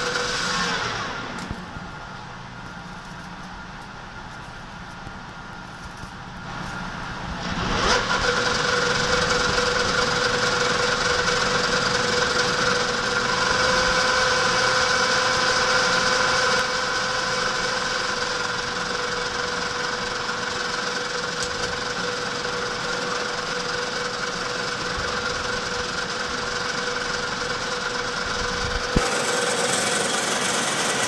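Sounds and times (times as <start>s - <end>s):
machine tool whining: 5.7s - 31.0s.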